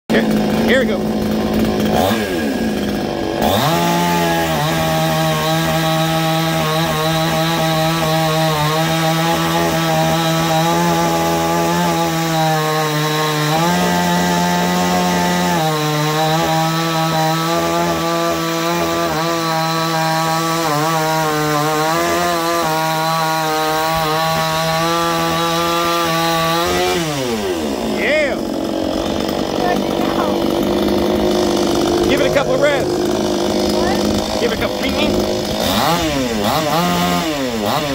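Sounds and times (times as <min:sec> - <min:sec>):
chainsaw cutting log: 0:00.1 - 0:37.9.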